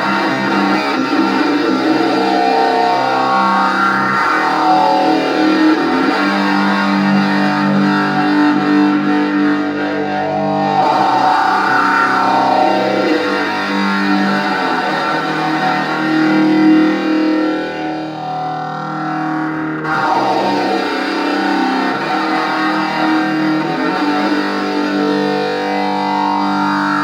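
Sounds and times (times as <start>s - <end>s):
electric guitar doom riff: 0.0s - 27.0s.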